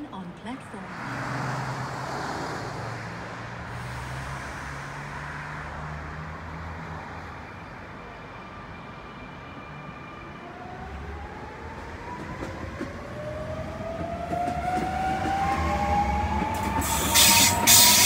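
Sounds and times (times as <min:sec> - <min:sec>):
electric train rumbling: 0:00.9 - 0:18.0.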